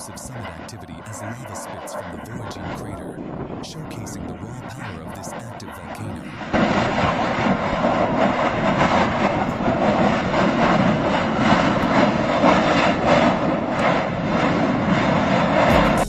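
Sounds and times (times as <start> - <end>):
volcano roaring: 1.4 - 15.9.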